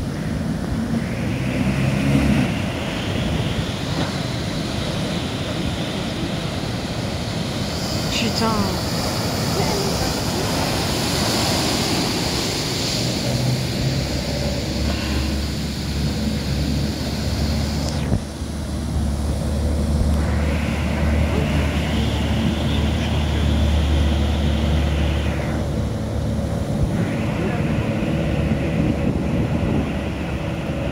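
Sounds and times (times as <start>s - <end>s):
boat engine droning: 0.0s - 30.9s
waves breaking: 0.0s - 30.9s
wind buffeting microphone: 0.0s - 30.9s.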